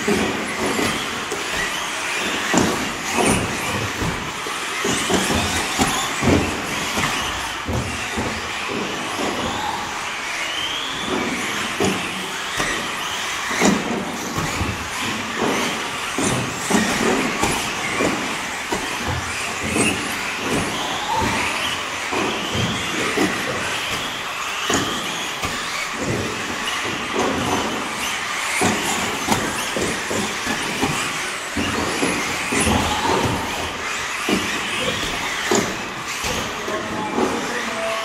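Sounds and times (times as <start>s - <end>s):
electric motors whining: 0.0s - 38.0s.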